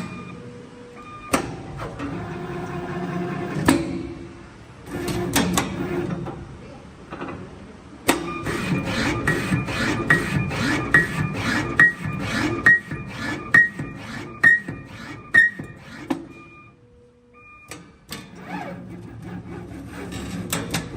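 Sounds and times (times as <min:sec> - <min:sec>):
machine motors whirring: 0:00.0 - 0:06.4, 0:08.1 - 0:16.8, 0:17.4 - 0:20.9
sharp mechanical clicks and knocks: 0:01.3 - 0:04.2, 0:04.9 - 0:06.4, 0:07.1 - 0:16.5, 0:17.7 - 0:20.9.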